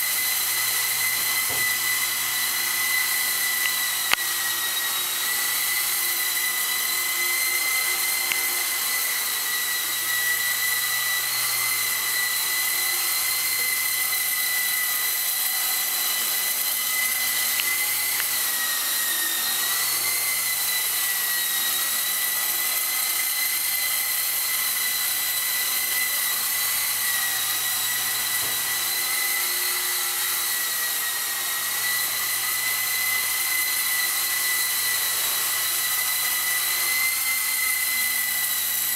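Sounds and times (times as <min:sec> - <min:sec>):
rc helicopter rotors whining: 0:00.0 - 0:38.9.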